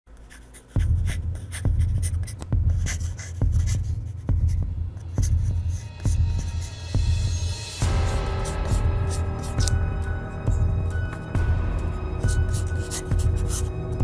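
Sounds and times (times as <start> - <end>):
pencil scratching on paper: 0.1 - 14.0
slow pulsing background music: 0.6 - 14.0.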